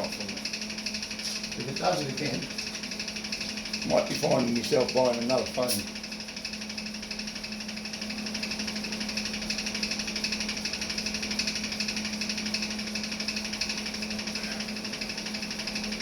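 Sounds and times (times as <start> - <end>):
electric fan clicking: 0.0 - 16.0
welder hum: 0.0 - 16.0.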